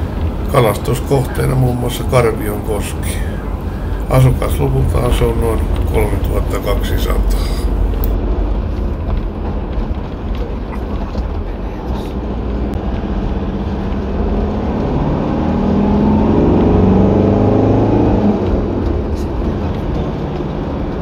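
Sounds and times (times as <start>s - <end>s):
vehicle engine and tyre rumble: 0.0s - 21.0s.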